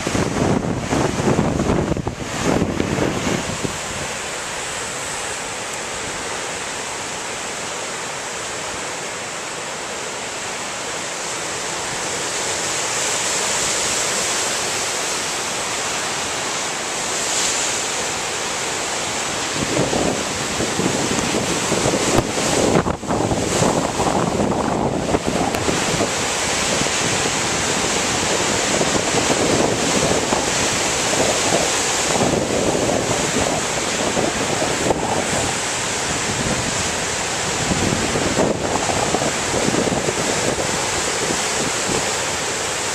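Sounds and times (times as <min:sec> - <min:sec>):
wind gusting on microphone: 0:00.0 - 0:07.5, 0:11.0 - 0:42.9
storm surf breaking on rocks: 0:00.0 - 0:42.9.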